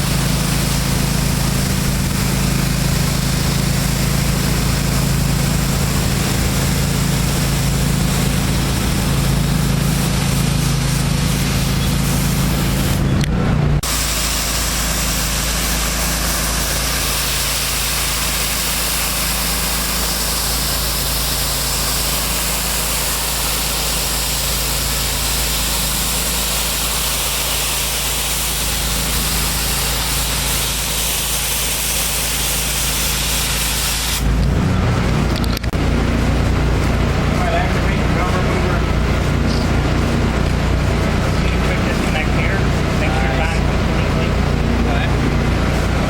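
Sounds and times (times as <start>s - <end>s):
high-pressure water spray hiss: 0.0s - 13.1s, 13.8s - 34.4s, 36.0s - 46.0s
engine running steadily: 0.0s - 46.0s.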